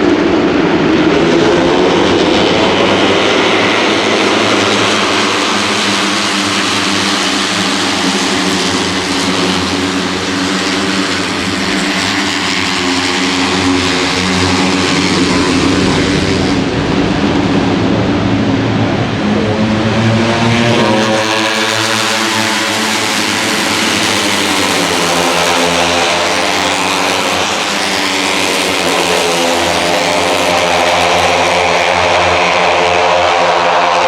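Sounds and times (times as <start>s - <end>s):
racing motorcycles at high revs: 0.0s - 34.0s.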